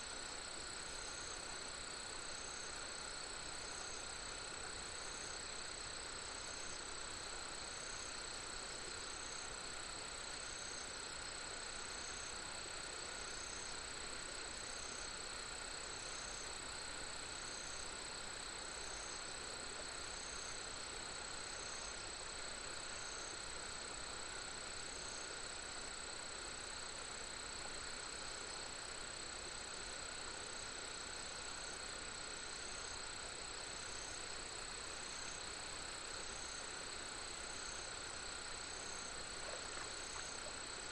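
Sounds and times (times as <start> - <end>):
short insect call: 0.0 - 40.9
soft steady hiss: 0.0 - 40.9.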